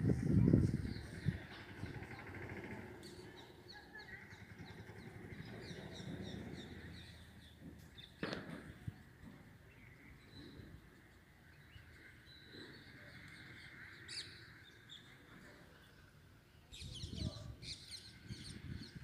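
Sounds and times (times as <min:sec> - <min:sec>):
birds chirping: 0:00.4 - 0:19.0.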